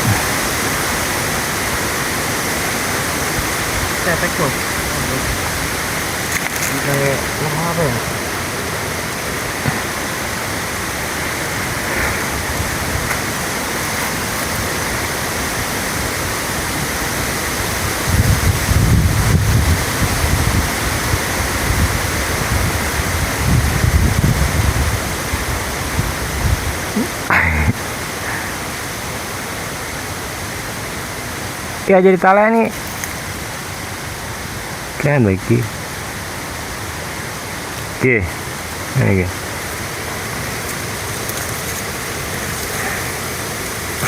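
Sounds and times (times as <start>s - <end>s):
water rushing: 0.0s - 44.0s.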